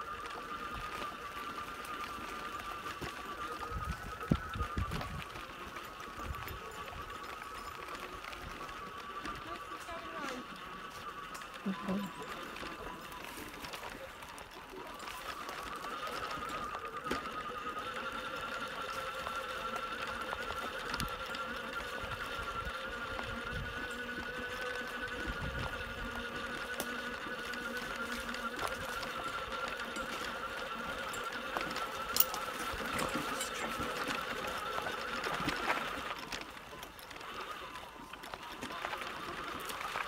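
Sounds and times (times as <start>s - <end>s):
electric motor whining: 0.0s - 40.0s
tyres rumbling on rough ground: 0.0s - 40.0s.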